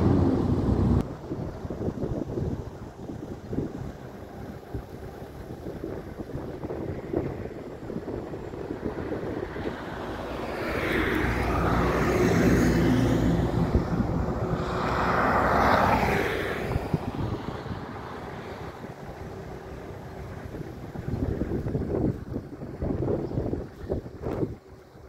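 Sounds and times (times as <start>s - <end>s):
jet airliner engines rumbling: 0.0s - 25.0s.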